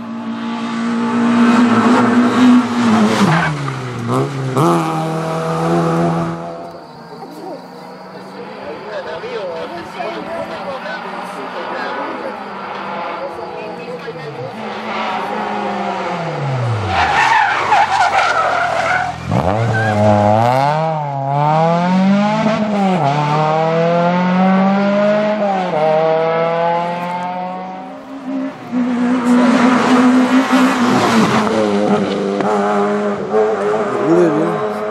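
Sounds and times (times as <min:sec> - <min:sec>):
rally car engine revving: 0:00.0 - 0:06.8, 0:07.6 - 0:34.9.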